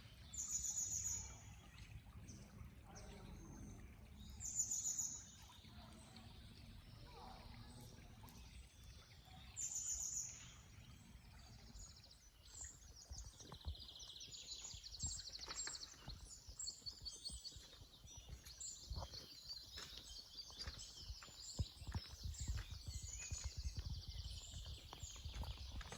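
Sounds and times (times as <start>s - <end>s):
faint outdoor background noise: 0.0s - 25.9s
songbirds singing and chirping: 0.0s - 25.9s.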